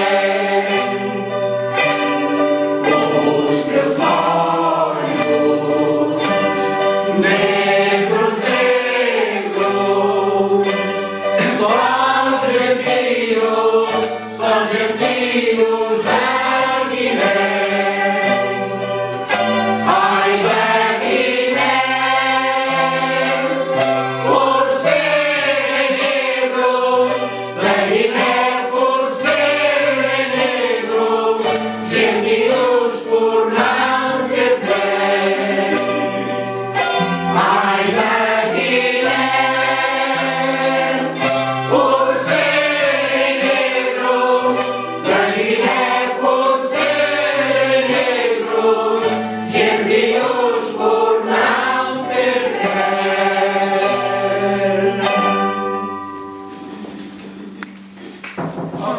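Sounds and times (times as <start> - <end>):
group of voices singing: 0.0 - 56.0
strummed guitar and strings: 0.0 - 58.9.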